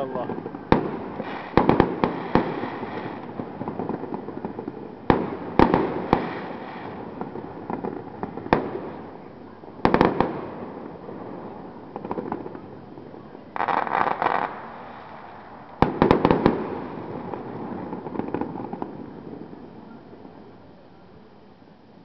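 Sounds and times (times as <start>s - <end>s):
fireworks bursting with echo: 0.0s - 20.6s.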